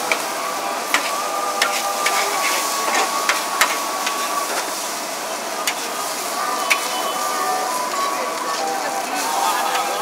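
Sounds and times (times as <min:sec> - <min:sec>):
noodles sizzling in a wok: 0:00.0 - 0:10.0.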